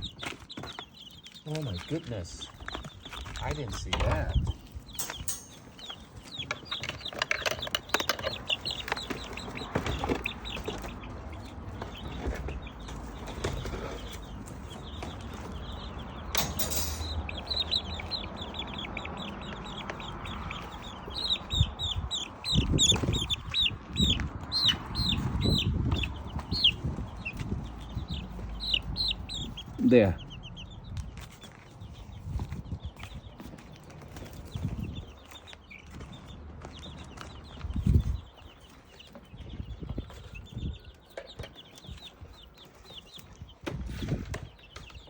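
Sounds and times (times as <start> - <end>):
chicks peeping: 0.0 - 45.0
chicks scratching and pecking: 0.0 - 45.0.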